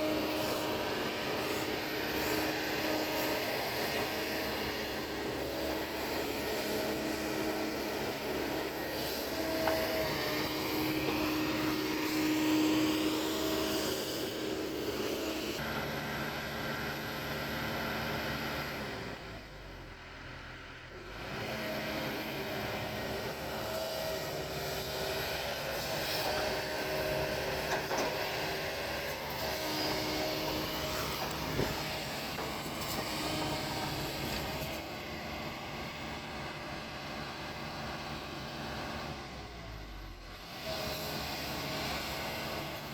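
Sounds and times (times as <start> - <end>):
excavator diesel engine droning: 0.0 - 42.9.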